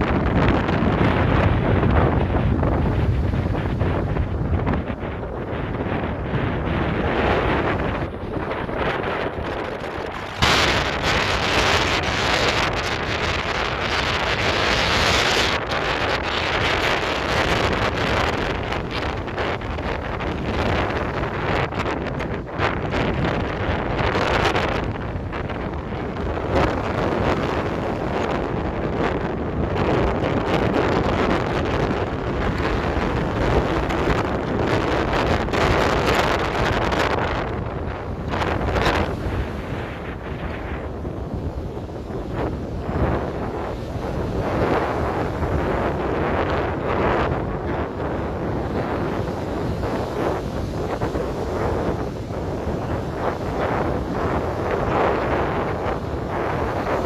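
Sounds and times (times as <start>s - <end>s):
sea waves rushing: 0.0s - 57.0s
wind blowing across microphone: 0.0s - 57.0s.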